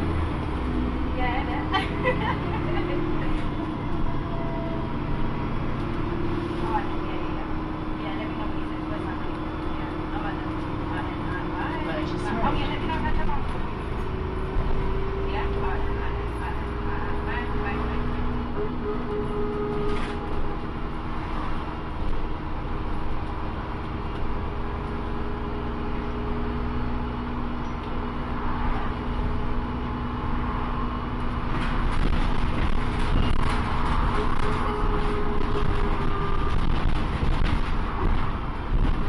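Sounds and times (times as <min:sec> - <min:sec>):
bus body rattling: 0:00.0 - 0:39.0
bus engine drone with whine: 0:00.0 - 0:39.0.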